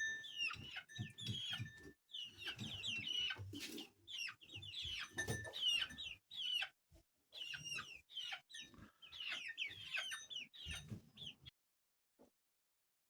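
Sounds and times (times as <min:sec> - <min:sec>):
chickens cheeping and clucking: 0:00.0 - 0:11.5.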